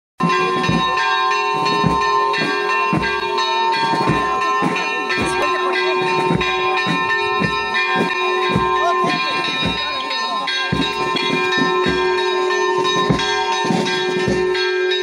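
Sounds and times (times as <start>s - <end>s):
church bells ringing a peal: 0.2s - 15.0s.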